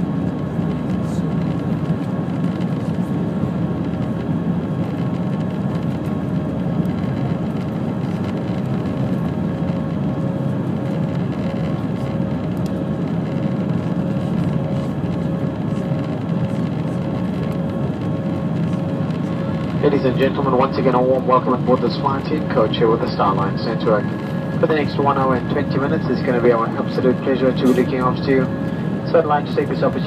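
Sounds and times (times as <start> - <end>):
faint constant hum: 0.0 - 30.0
jet engine cabin drone: 0.0 - 30.0.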